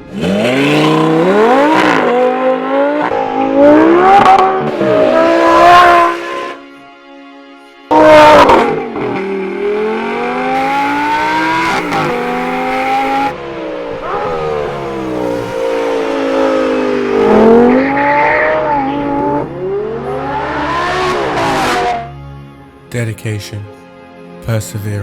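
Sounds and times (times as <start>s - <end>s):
sports car engine revving: 0.0s - 6.6s, 7.9s - 22.1s.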